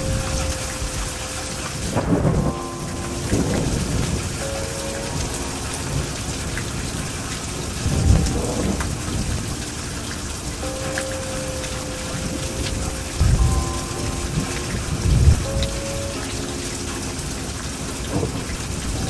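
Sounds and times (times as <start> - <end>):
steady rain falling: 0.0 - 19.0
thunder rumbling: 0.0 - 19.0.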